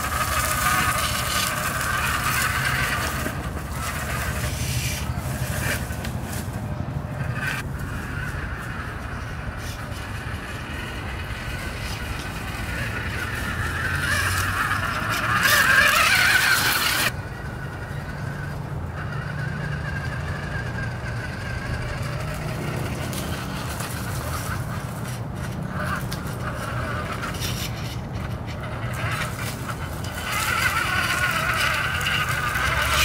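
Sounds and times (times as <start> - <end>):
toy car motor and gears whining: 0.0 - 33.0.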